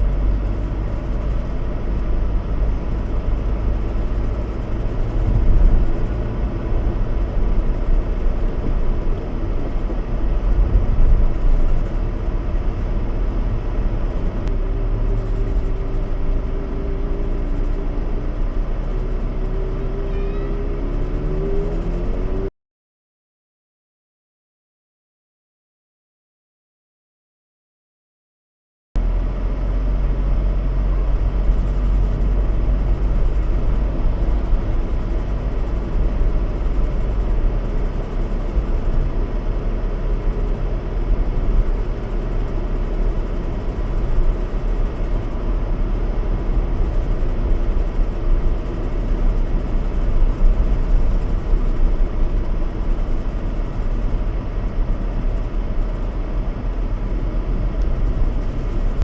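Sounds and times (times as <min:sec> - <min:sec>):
car cabin road noise: 0:00.0 - 0:22.5, 0:29.0 - 0:59.0.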